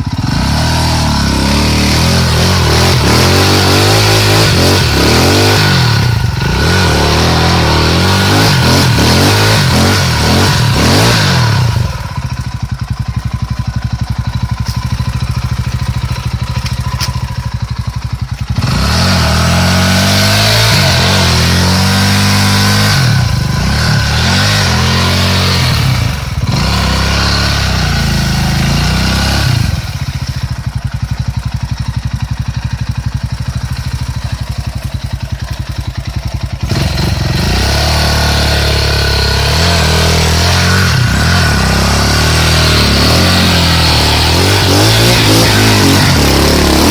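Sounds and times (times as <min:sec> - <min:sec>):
dirt bike engine idling and revving: 0:00.0 - 0:46.9.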